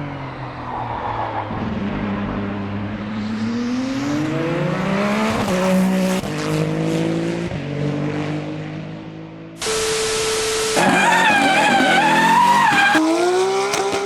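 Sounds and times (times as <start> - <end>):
rally car engine accelerating: 0.0 - 9.4, 10.2 - 14.0.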